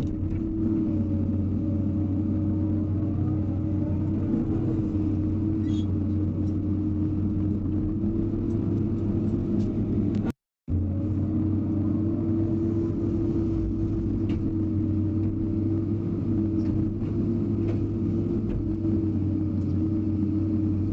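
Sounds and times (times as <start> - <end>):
excavator diesel engine humming: 0.0 - 20.9.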